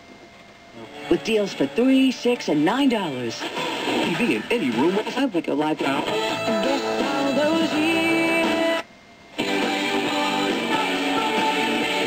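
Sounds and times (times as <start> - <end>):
guitar music on radio: 0.8 - 12.0.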